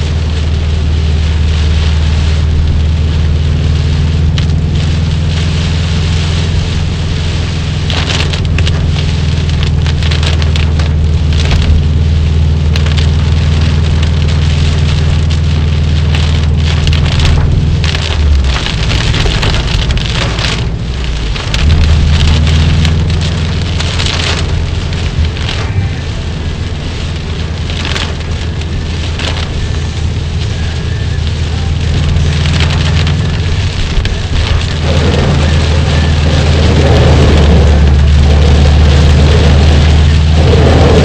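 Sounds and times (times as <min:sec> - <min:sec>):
car engine humming: 0:00.0 - 0:41.0
heavy rain on a moving car: 0:00.0 - 0:41.0.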